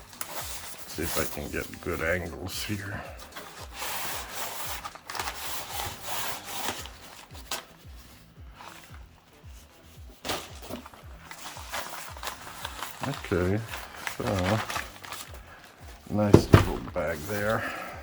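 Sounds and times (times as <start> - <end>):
packaging rubbing and scraping: 0.0 - 18.0.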